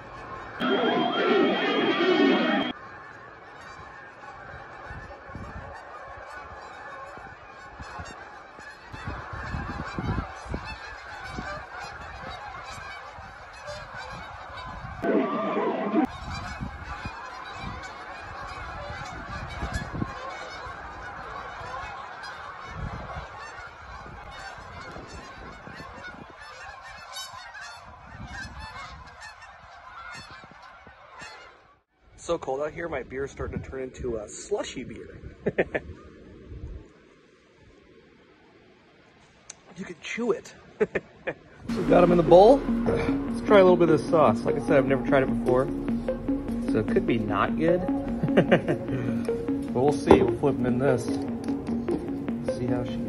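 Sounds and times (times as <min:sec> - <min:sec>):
geese honking overhead: 0:00.0 - 0:32.9, 0:33.6 - 0:53.0.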